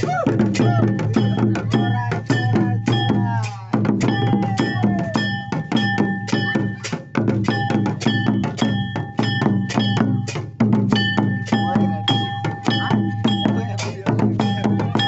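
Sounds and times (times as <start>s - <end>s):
fast drum beat: 0.0s - 15.0s
held ringing tones: 0.6s - 10.3s, 11.0s - 13.8s, 14.4s - 15.0s.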